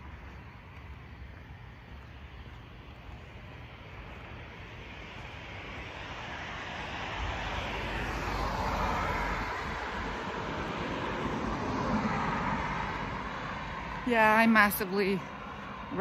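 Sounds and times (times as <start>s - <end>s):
vehicle passing by: 2.3s - 16.0s.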